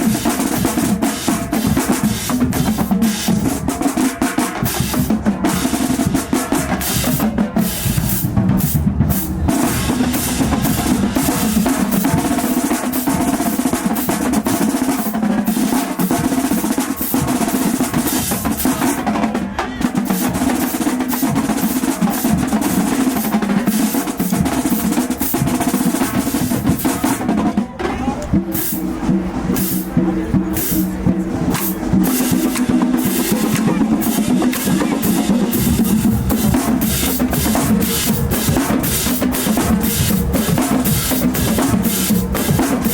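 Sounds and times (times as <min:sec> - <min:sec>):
marching band playing: 0:00.0 - 0:42.9
snare and bass drums: 0:00.0 - 0:42.9.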